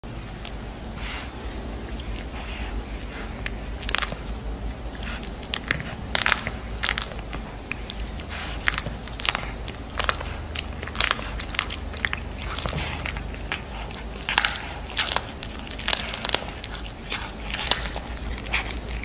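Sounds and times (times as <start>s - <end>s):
cat chewing with crunches: 0.0s - 19.0s.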